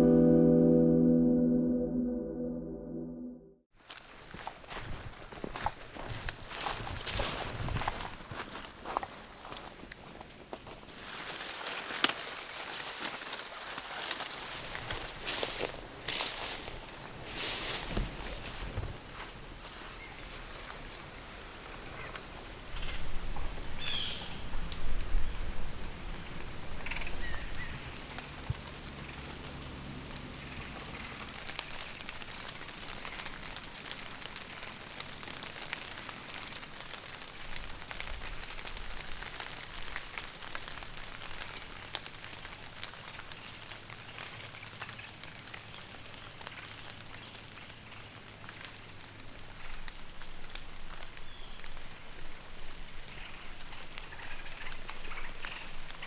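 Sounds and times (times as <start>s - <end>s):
light rain pattering: 3.8s - 56.0s.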